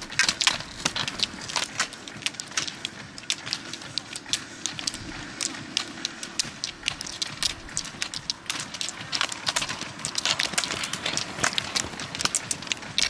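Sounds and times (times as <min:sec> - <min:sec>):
roller-ski wheels rolling: 0:00.0 - 0:13.0
ski poles clicking on asphalt: 0:00.0 - 0:13.0.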